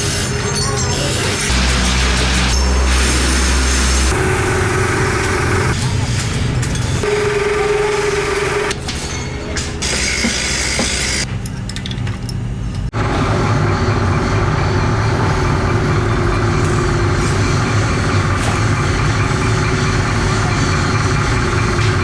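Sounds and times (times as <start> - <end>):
workshop machinery humming: 0.0 - 22.0.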